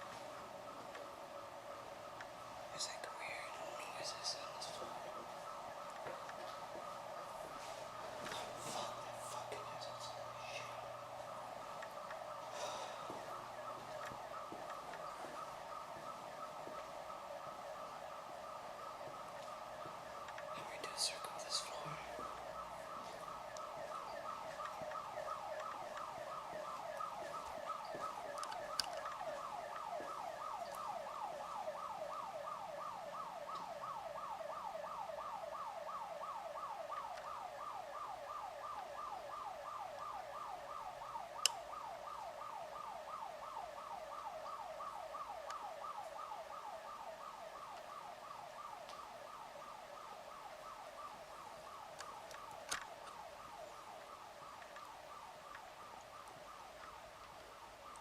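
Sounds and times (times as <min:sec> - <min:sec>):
warbling alarm siren: 0:00.0 - 0:58.0.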